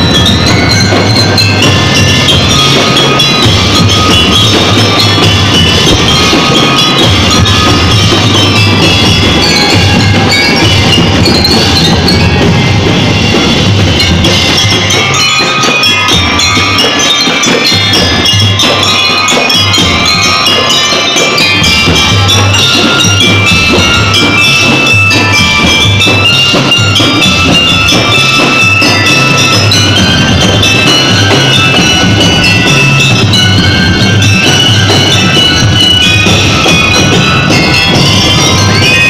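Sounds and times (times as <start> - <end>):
glockenspiels playing fast melody: 0.0 - 39.0.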